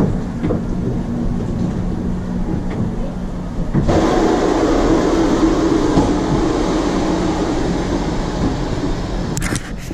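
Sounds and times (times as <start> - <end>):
ride vehicle rumbling on track: 0.0 - 9.9.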